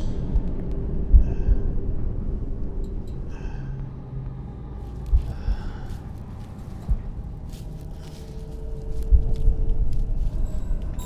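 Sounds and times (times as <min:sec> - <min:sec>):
deep rumble: 0:00.0 - 0:11.0
heavy low thumps: 0:00.0 - 0:11.0.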